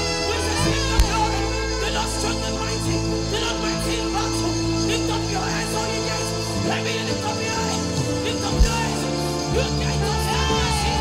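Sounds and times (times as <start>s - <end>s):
bass line: 0.0s - 11.0s
keyboard chords: 0.0s - 11.0s
voices singing: 0.0s - 11.0s.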